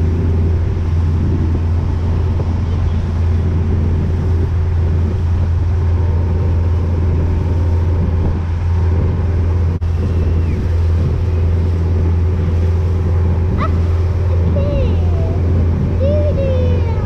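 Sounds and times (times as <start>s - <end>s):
motorboat engine drone: 0.0s - 17.0s
wind and water noise: 0.0s - 17.0s.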